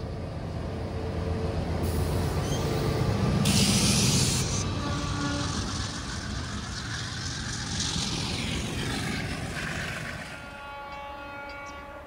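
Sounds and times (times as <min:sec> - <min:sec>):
diesel engines rumbling: 0:00.0 - 0:11.8
train wheels rolling over rails: 0:00.5 - 0:12.0.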